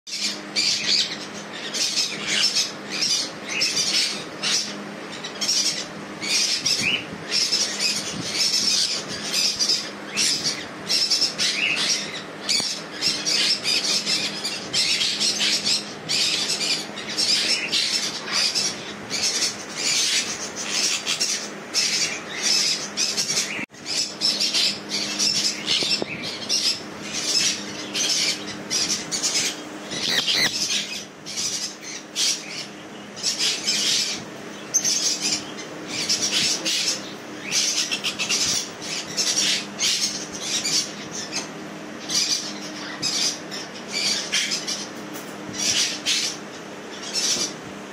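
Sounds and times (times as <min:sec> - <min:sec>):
parrots screeching: 0:00.2 - 0:47.6.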